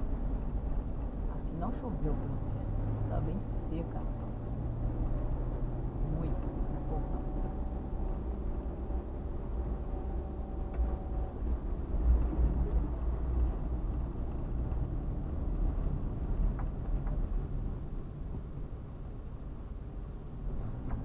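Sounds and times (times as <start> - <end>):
faint engine hum: 0.0 - 21.0
low rumble of engine and road: 0.0 - 21.0.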